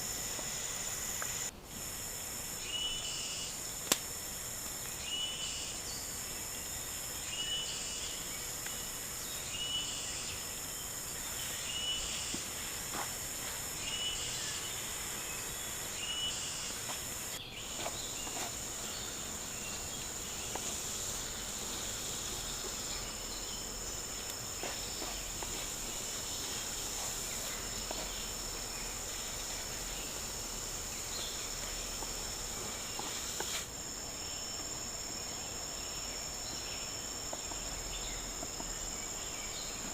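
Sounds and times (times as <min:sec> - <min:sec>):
insect chorus buzzing drone: 0:00.0 - 0:39.9.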